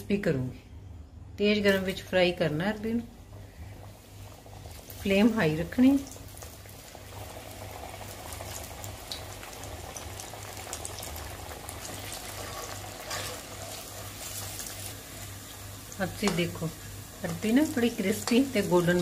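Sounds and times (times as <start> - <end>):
deep-frying sizzle with crackles: 1.6 - 19.0.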